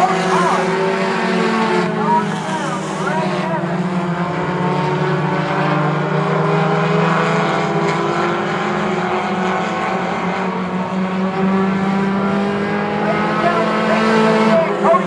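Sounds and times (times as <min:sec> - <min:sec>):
racing car engines droning: 0:00.0 - 0:15.0.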